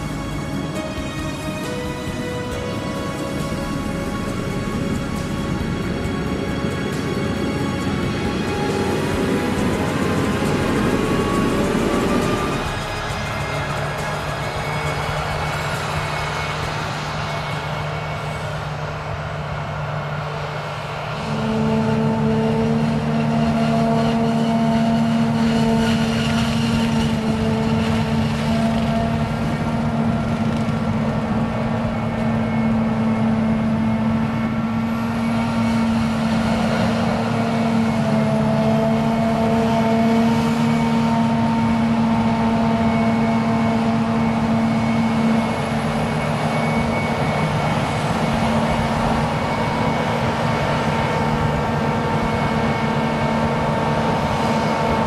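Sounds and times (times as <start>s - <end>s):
heavy machine drone: 0.0s - 55.0s
strong steady hum: 0.0s - 55.0s.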